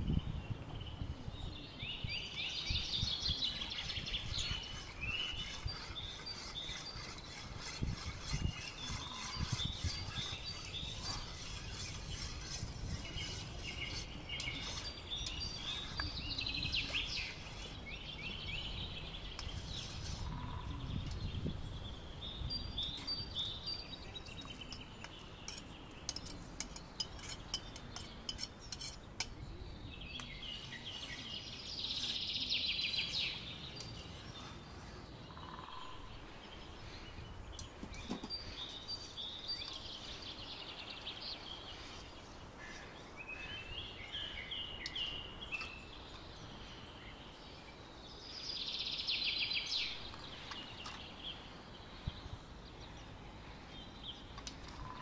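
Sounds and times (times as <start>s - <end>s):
birds singing: 0.0s - 55.0s.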